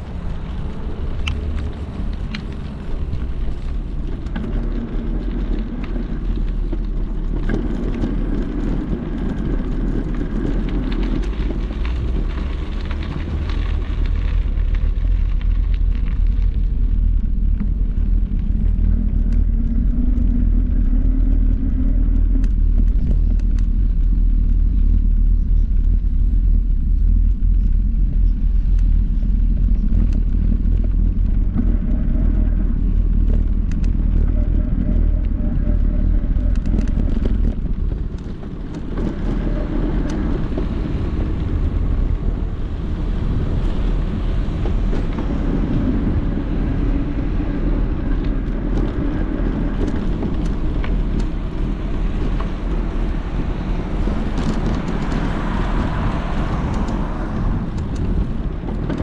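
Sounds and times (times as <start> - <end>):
low street rumble: 0.0 - 59.0.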